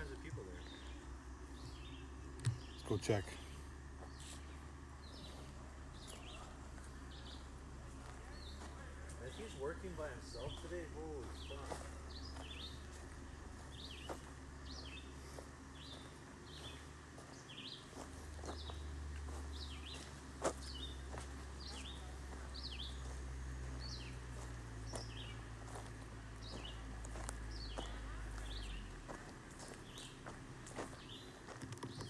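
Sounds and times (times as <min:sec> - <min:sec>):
steady low rumble: 0:00.0 - 0:31.6
bird chirping: 0:00.0 - 0:32.0.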